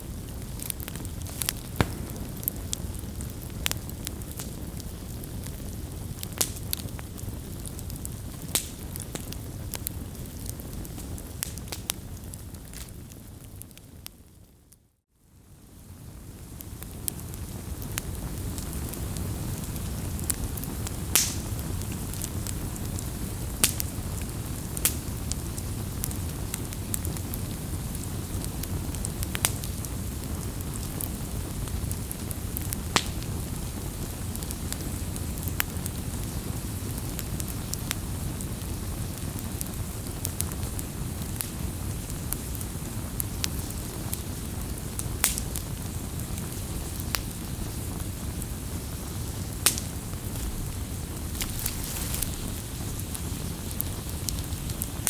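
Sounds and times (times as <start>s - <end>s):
burning wood popping: 0.0s - 14.2s, 16.4s - 55.0s
wood fire crackling: 0.0s - 14.8s, 15.4s - 55.0s
low rumble of flames: 0.0s - 55.0s.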